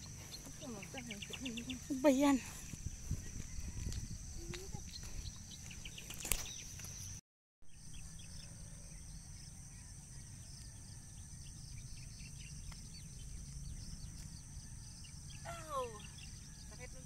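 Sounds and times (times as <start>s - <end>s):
low wind rumble: 0.0s - 6.6s, 7.8s - 17.0s
small birds chirping: 0.0s - 17.0s.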